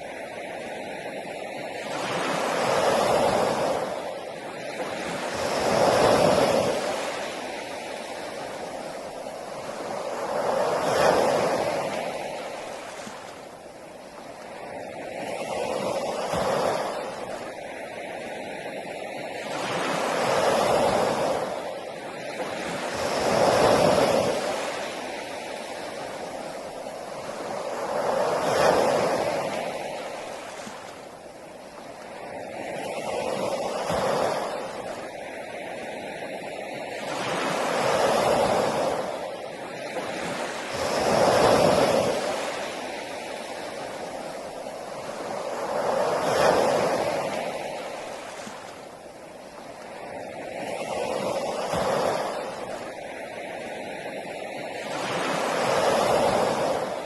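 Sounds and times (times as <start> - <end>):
sea waves breaking on beach: 0.0 - 57.0.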